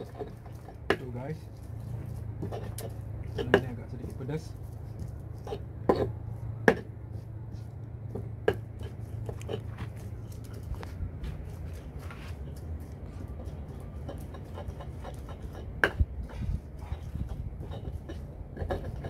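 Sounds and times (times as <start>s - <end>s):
pestle scraping taps: 0.0s - 3.8s, 4.9s - 6.9s, 7.5s - 19.0s
low steady hum: 0.0s - 19.0s.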